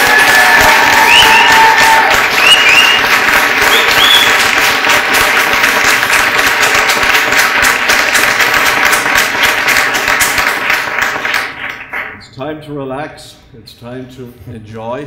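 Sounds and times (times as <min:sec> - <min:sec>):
crowd clapping: 0:00.0 - 0:12.2.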